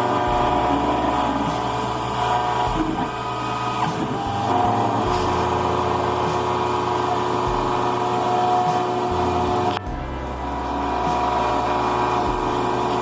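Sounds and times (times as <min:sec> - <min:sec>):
whining cutter tones: 0:00.0 - 0:13.0.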